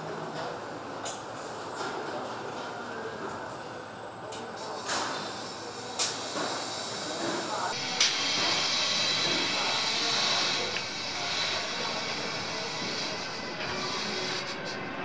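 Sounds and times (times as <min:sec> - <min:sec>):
steady workshop hiss: 0:00.0 - 0:15.0.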